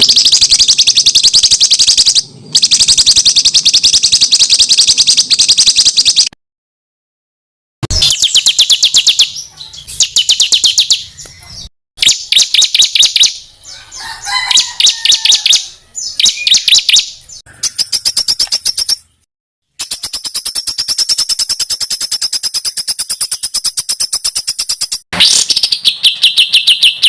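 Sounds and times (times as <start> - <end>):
songbird singing rapid high notes: 0.0 - 6.3, 7.9 - 19.2, 19.8 - 27.0.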